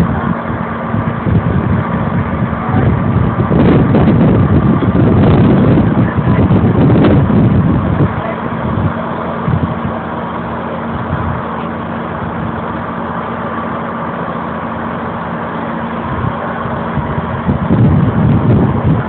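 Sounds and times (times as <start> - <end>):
wind buffeting microphone: 0.0 - 13.0, 15.7 - 19.0
heavy engine droning: 0.0 - 19.0.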